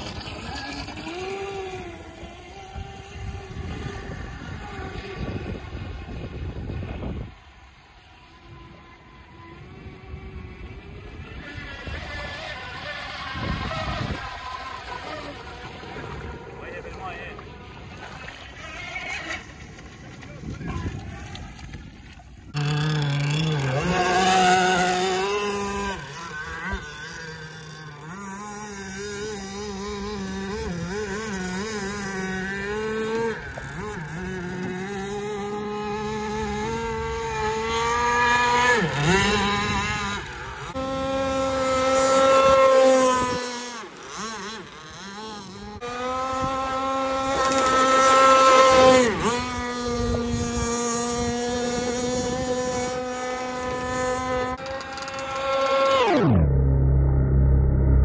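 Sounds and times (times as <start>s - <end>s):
model speedboat engine buzzing: 0.0s - 58.0s.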